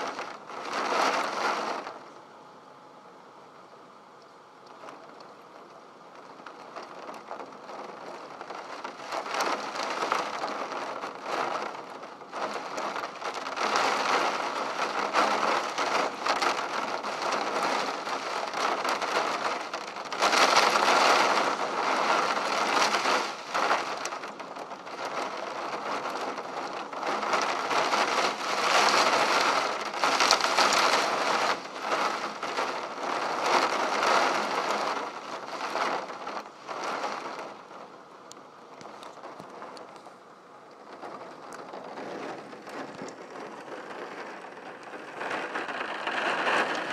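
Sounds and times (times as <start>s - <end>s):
heavy rain on a window: 0.0s - 46.9s.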